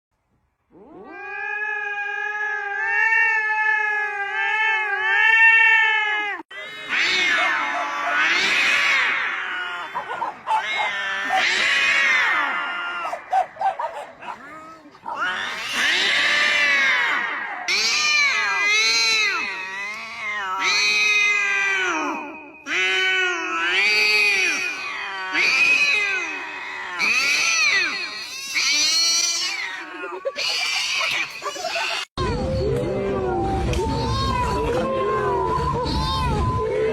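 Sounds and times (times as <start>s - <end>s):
cat yowling: 0.8s - 32.2s, 33.6s - 36.7s.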